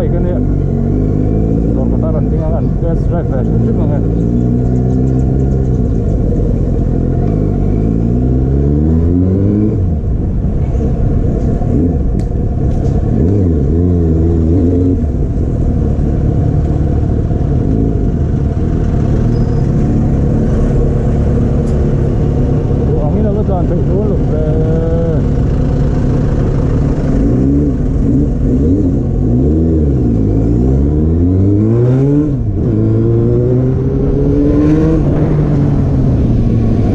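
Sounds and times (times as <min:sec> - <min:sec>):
motorcycle engine revving: 0:00.0 - 0:10.3, 0:11.6 - 0:36.9.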